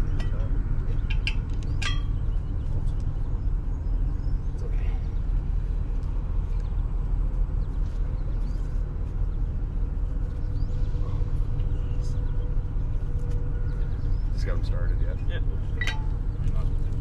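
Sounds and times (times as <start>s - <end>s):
faint steady hum: 0.0s - 17.0s
truck engine idling: 0.0s - 17.0s.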